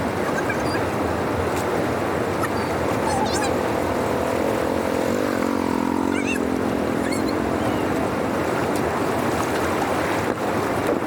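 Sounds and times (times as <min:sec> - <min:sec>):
water rushing through channel: 0:00.0 - 0:11.0.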